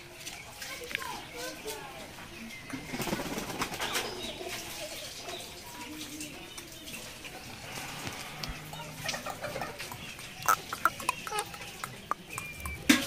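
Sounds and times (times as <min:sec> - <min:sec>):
birds calling softly: 0:00.0 - 0:13.0.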